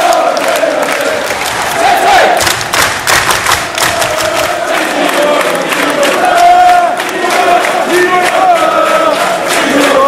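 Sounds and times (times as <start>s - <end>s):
crowd singing and chanting: 0.0s - 2.7s, 3.5s - 10.0s
general crowd noise: 0.0s - 10.0s.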